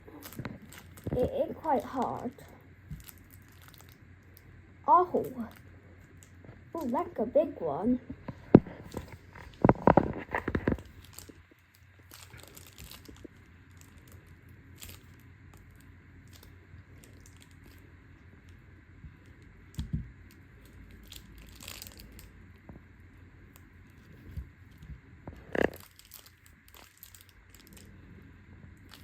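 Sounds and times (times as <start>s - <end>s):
plastic pouch crinkling: 0.0s - 4.5s, 5.2s - 7.2s, 8.7s - 18.6s, 19.7s - 22.3s, 23.9s - 27.9s, 28.8s - 29.0s.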